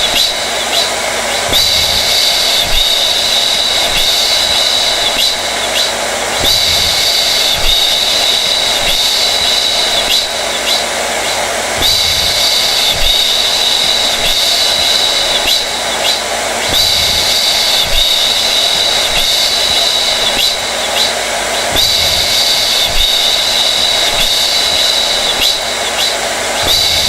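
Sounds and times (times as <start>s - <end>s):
hair dryer blowing air: 0.0s - 27.0s.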